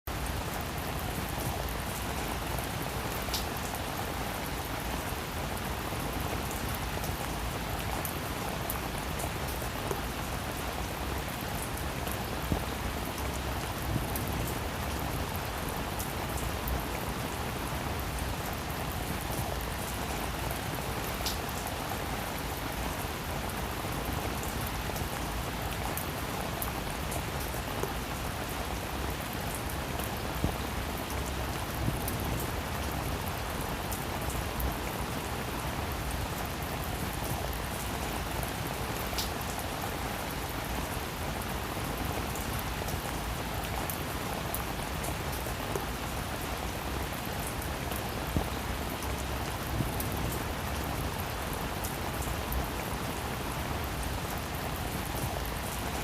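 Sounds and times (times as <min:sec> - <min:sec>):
rain falling on a roof: 0:00.0 - 0:56.0.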